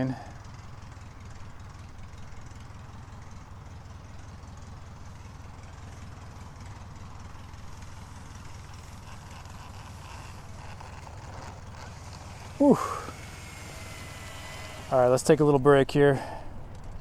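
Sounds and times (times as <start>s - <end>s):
aircraft piston engine idling: 0.0s - 17.0s.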